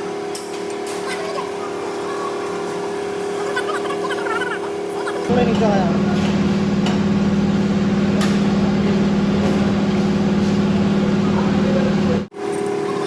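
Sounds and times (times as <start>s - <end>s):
machine humming steadily: 0.0s - 12.8s.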